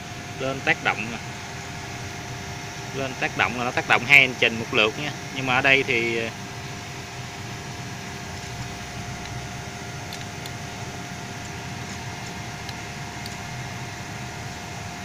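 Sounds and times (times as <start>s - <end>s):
cooling fan: 0.0s - 15.0s
hoist motor humming and whining: 0.0s - 15.0s.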